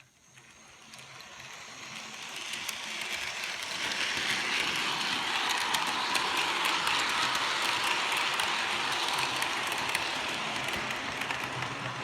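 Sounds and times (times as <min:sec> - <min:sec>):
model train motor whirring: 0:00.0 - 0:12.0.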